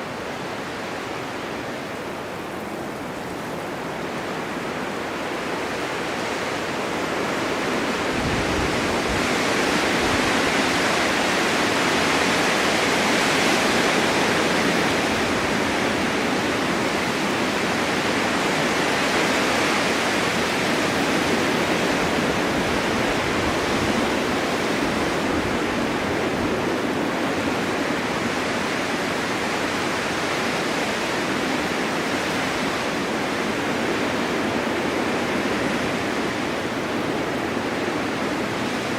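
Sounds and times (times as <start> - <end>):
blizzard wind rushing: 0.0 - 38.9.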